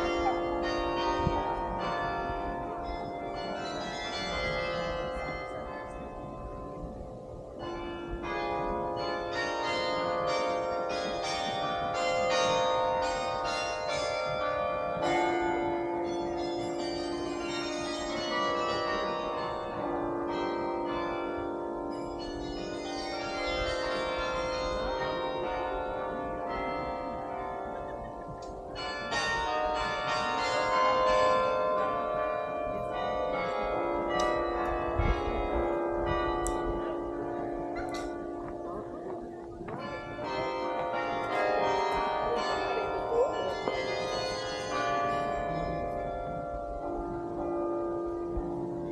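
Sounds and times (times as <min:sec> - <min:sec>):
carillon bells ringing: 0:00.0 - 0:48.9.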